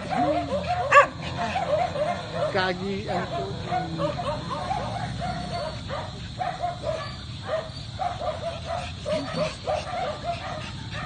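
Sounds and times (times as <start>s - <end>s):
small dogs yipping: 0.0s - 11.0s.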